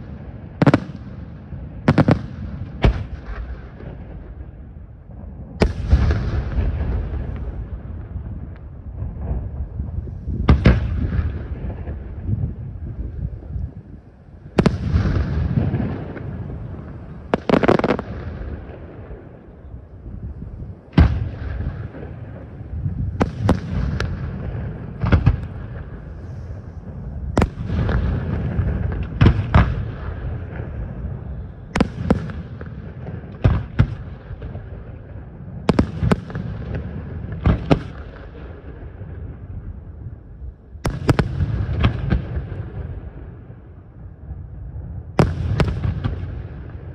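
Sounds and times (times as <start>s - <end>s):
low rolling rumble and echo: 0.0s - 46.9s.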